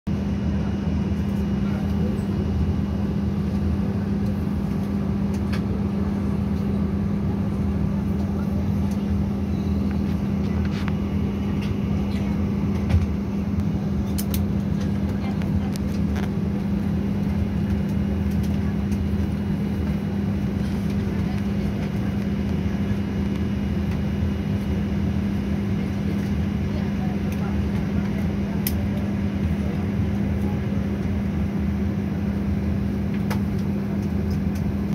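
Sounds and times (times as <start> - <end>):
jet cabin low rumble: 0.1 - 34.9
steady hum: 0.2 - 34.9.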